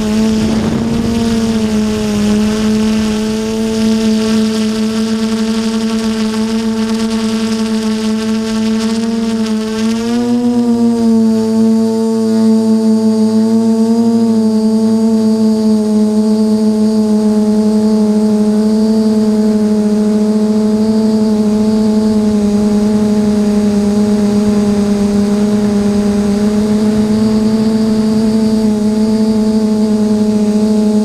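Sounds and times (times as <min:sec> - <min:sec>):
drone motors and propellers droning: 0:00.0 - 0:31.0
faint high whine: 0:00.0 - 0:31.0.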